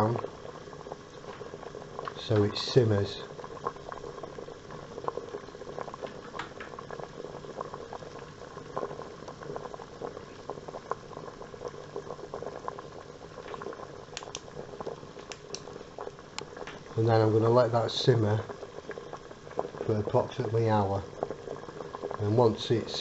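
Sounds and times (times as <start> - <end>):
water boiling in a pan: 0.0 - 23.0.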